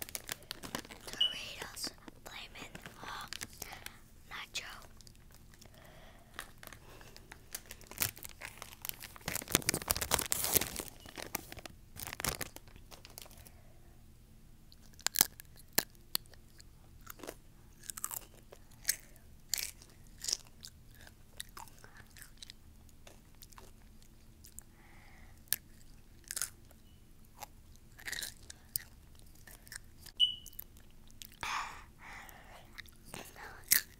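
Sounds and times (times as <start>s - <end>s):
chewing crunchy chips: 0.0s - 4.0s, 4.6s - 13.6s, 14.7s - 24.7s, 25.4s - 31.6s, 32.2s - 33.9s.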